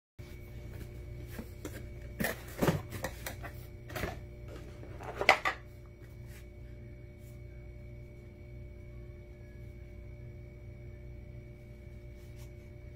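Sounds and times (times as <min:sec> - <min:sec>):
steady low hum: 0:00.2 - 0:12.9.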